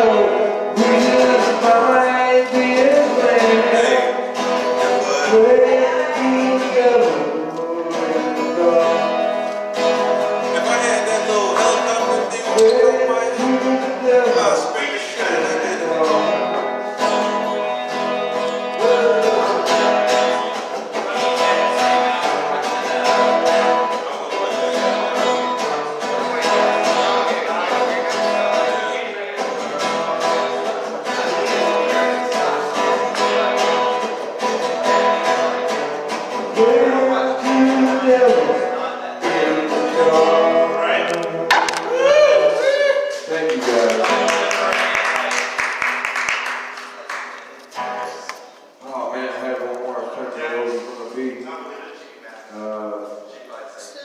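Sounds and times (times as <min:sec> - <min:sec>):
person singing: 0:00.0 - 0:09.7, 0:10.5 - 0:44.7
acoustic guitar strumming: 0:00.0 - 0:46.7, 0:47.7 - 0:48.6.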